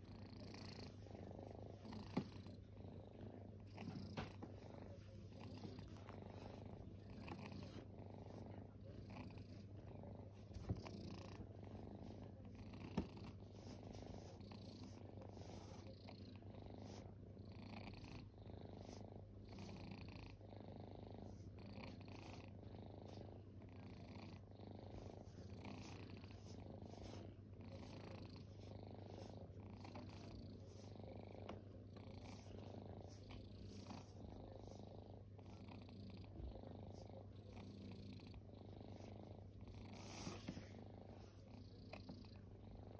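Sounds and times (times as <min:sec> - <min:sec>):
cat purring softly: 0:00.0 - 0:42.9.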